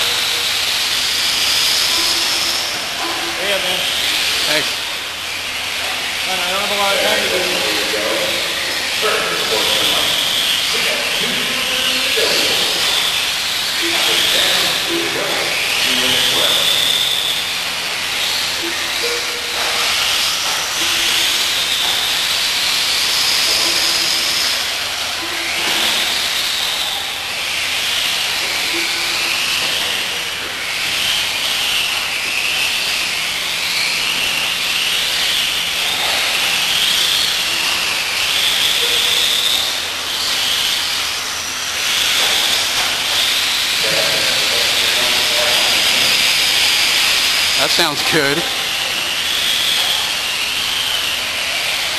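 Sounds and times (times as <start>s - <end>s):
rc car motors whining: 0.0s - 51.9s.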